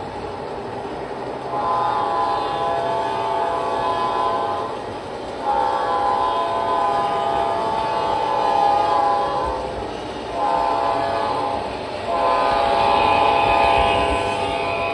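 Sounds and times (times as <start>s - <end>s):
model locomotive horn blasts: 1.5s - 4.8s, 5.4s - 14.9s.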